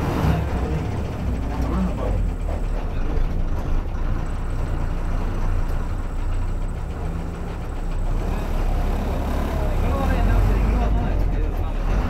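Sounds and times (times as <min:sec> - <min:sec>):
car engine rumbling inside cabin: 0:00.0 - 0:12.0.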